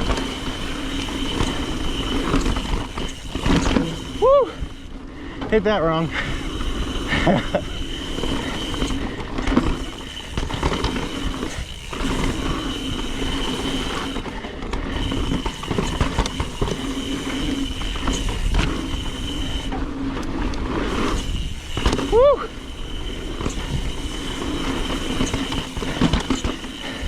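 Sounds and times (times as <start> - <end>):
bike knocks and rattles: 0.0 - 5.6, 6.2 - 27.0
bike tyre roar: 0.0 - 27.0
steady high whine: 0.0 - 27.0.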